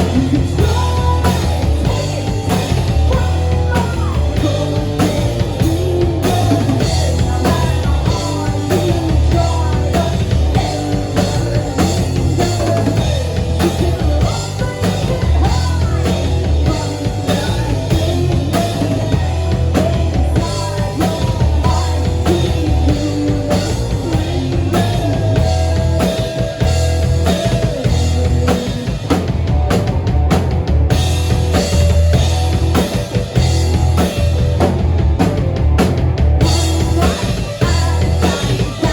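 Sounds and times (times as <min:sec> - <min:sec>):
drum kit beat: 0:00.0 - 0:38.9
heavy bass line: 0:00.0 - 0:38.9
live rock band playing: 0:00.0 - 0:38.9.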